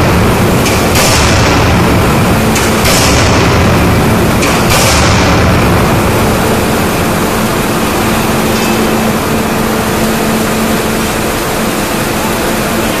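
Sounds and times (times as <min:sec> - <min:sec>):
low hydraulic hum: 0:00.0 - 0:13.0
workshop noise: 0:00.0 - 0:13.0.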